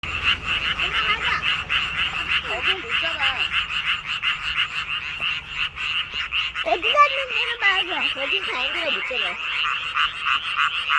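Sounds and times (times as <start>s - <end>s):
frogs croaking in chorus: 0.0s - 10.9s.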